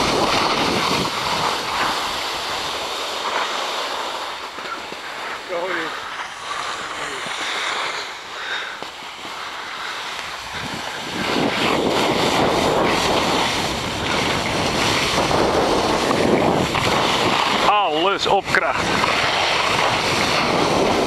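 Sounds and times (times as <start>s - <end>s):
wind rushing on microphone: 0.0s - 3.0s, 4.3s - 21.0s
skis scraping over snow: 0.0s - 21.0s.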